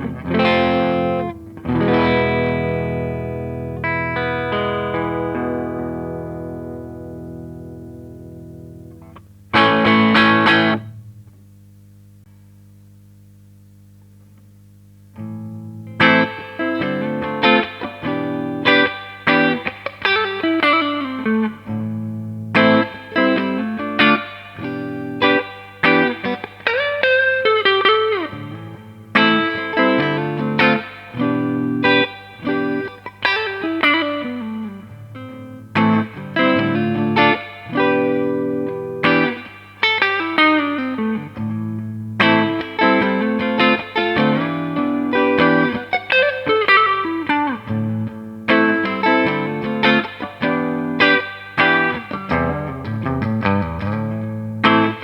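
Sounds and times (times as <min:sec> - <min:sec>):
electric guitar chords and notes: 0:00.0 - 0:11.5, 0:15.1 - 0:55.0.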